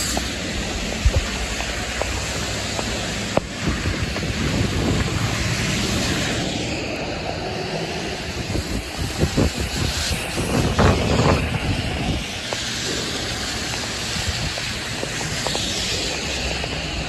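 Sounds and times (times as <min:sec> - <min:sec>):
vehicles driving through puddle: 0:00.0 - 0:17.0.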